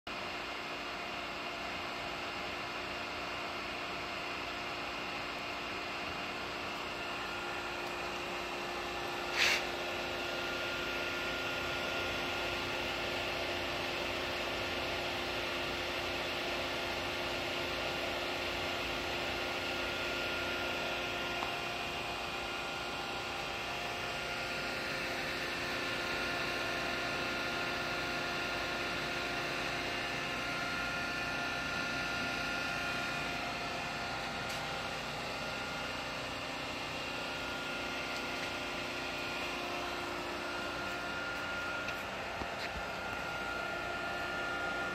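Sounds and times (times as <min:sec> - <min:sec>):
hydraulic cylinder humming and hissing: 0:00.1 - 0:44.9.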